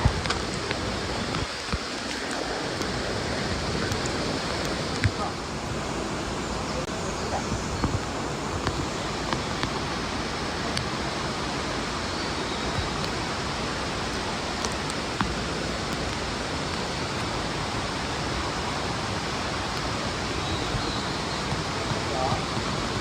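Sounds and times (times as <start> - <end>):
stream rushing over boulders: 0.0 - 23.0.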